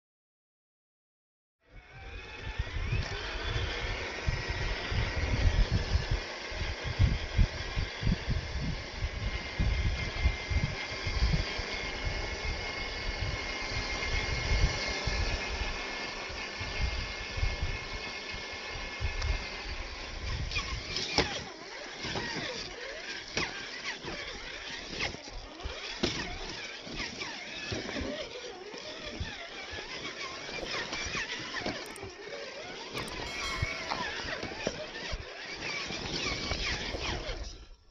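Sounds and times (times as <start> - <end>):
electric motor and gears whining: 1.6 - 37.9.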